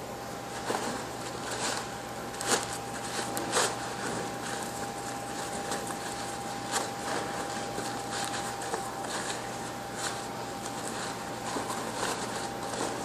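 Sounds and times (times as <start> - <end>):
faint steady hum: 0.0 - 13.0
cloth rustling against plate: 0.4 - 13.0.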